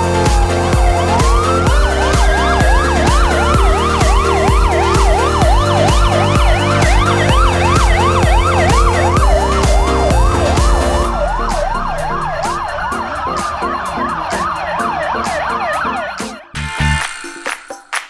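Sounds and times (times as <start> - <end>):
slower siren wail: 0.0 - 16.6
siren sweeping up and down: 0.0 - 17.6
music with steady beat: 0.0 - 18.0.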